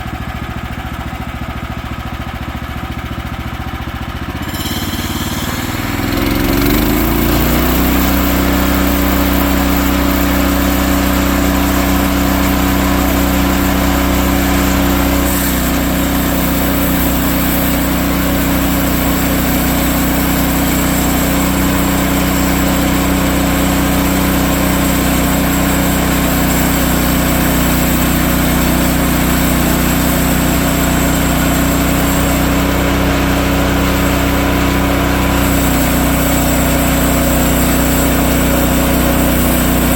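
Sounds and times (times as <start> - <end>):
sawmill engine revving: 0.0 - 39.9
band blade cutting log: 4.3 - 39.9.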